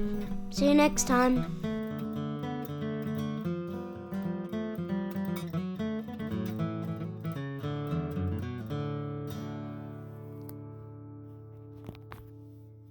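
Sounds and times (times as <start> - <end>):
acoustic guitar picked and strummed: 0.0 - 12.9.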